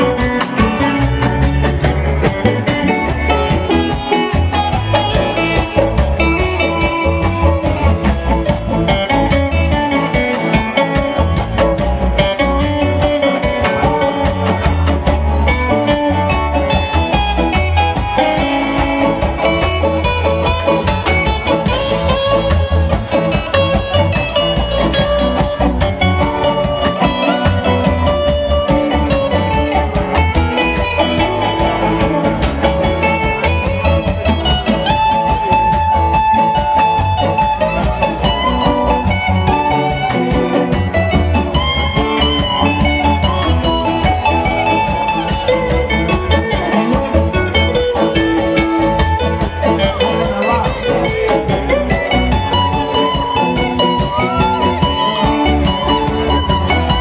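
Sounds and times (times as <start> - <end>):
electric bass guitar: 0.0 - 57.0
electric guitar: 0.0 - 57.0
reggae band playing: 0.0 - 57.0
twelve-string acoustic guitar: 0.0 - 57.0.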